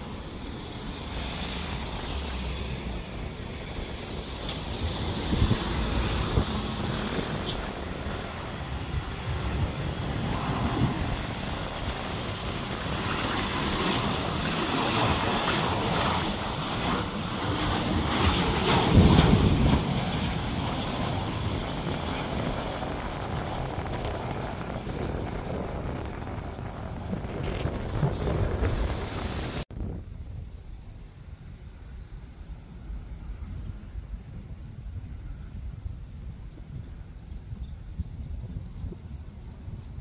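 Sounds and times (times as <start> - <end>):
jet airliner engines rushing: 0.0 - 40.0.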